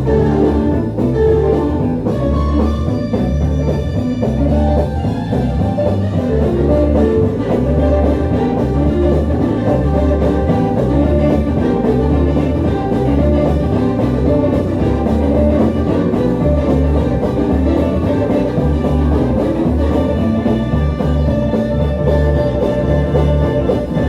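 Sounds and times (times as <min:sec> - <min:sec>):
gospel band playing: 0:00.0 - 0:24.0.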